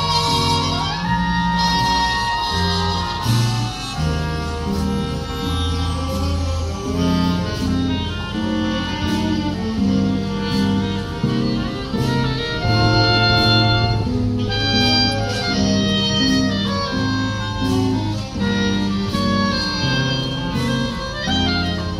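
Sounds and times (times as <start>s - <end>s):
jazz band playing slow tune: 0.0s - 21.9s.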